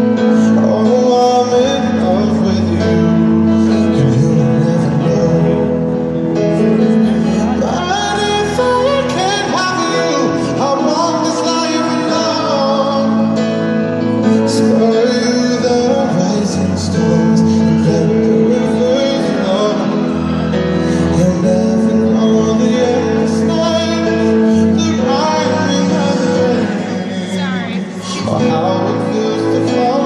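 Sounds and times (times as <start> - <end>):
pop song with high vocals: 0.0 - 30.0.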